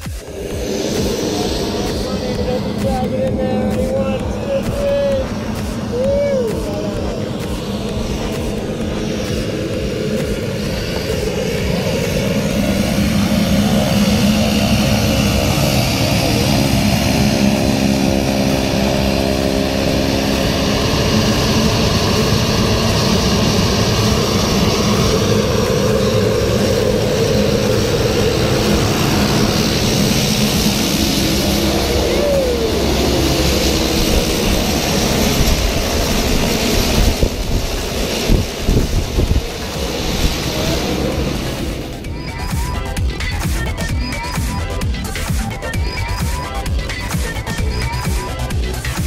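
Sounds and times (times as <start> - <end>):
propeller airplane engine drone: 0.0 - 49.0.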